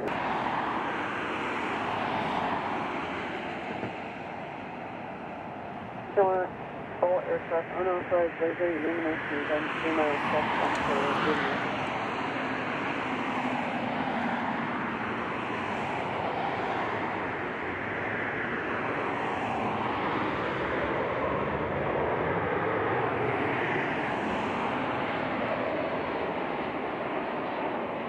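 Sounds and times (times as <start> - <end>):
jet airliner engine rush: 0.0 - 28.0.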